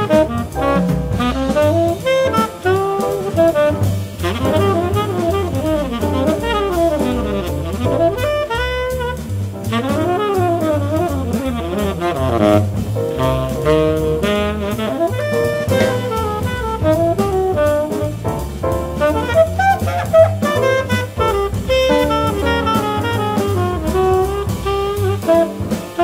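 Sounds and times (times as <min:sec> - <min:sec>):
double bass walking: 0:00.0 - 0:26.0
drums and cymbals: 0:00.0 - 0:26.0
piano: 0:00.0 - 0:26.0
tenor saxophone melody: 0:00.0 - 0:26.0.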